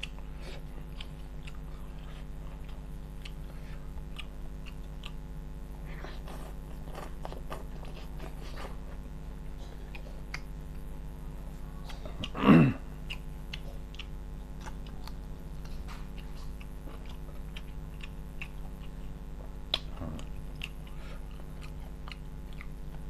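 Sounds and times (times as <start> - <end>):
close-miked chewing: 0.0 - 23.0
low electrical hum: 0.0 - 23.0.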